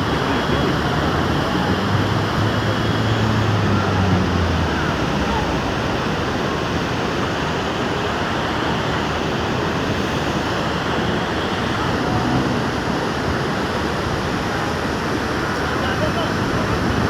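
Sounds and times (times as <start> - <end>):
rainwater torrent rushing: 0.0 - 17.0.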